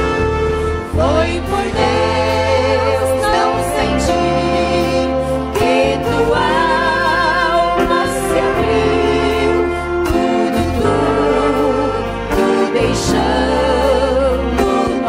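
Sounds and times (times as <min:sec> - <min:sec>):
women's group singing a hymn: 0:00.9 - 0:15.0.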